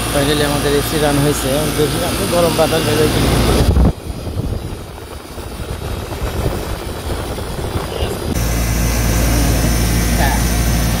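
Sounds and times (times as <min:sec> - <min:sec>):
air conditioner fan rushing air: 0:00.0 - 0:11.0
low hum: 0:00.0 - 0:11.0.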